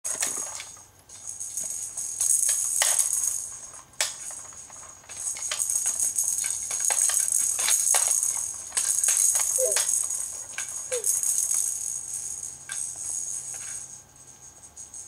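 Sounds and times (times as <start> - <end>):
baby rattle toy shaking: 0.1 - 15.0.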